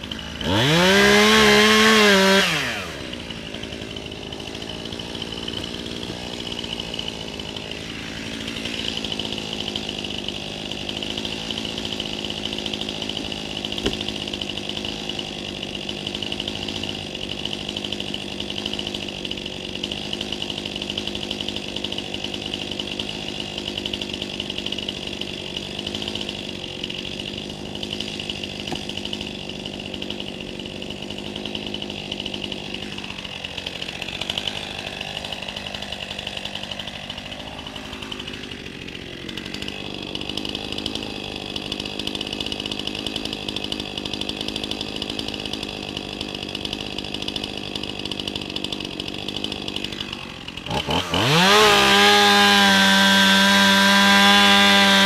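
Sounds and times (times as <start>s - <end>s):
chainsaw running and revving: 0.0s - 55.0s.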